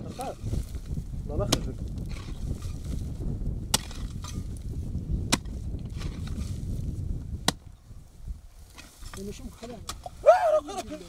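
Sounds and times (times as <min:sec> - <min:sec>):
digging tool striking hard clay: 0:00.0 - 0:06.7, 0:07.3 - 0:07.8, 0:08.7 - 0:11.0.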